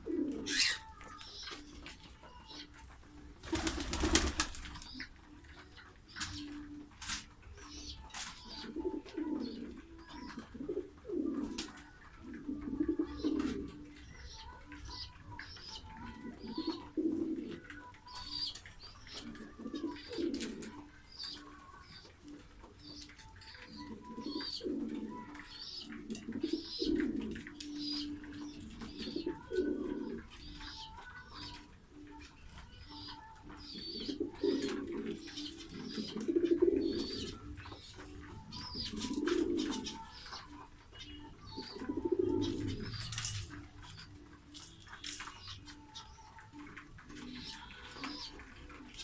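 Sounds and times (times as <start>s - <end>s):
pigeons cooing: 0.0s - 49.0s
small birds chirping: 0.0s - 49.0s.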